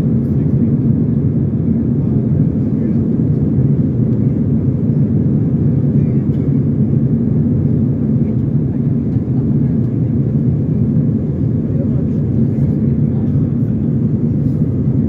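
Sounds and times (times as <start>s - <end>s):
jet engine roar in cabin: 0.0s - 15.0s.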